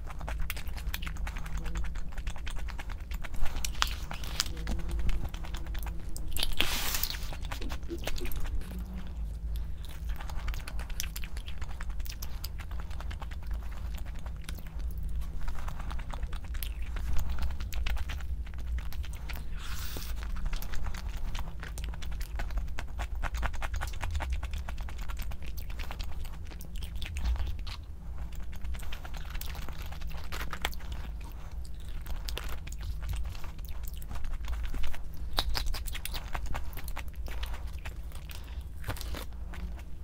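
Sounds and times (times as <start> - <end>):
chewing crispy fried food: 0.0 - 40.0
steady low hum: 0.0 - 40.0.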